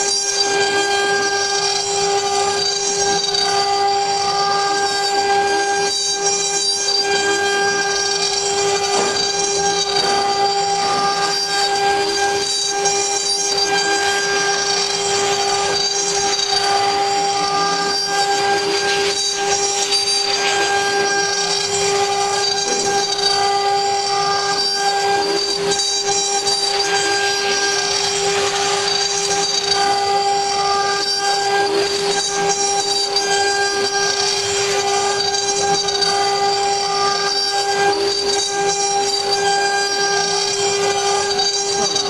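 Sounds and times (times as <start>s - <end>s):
router spindle whine: 0.0s - 42.0s.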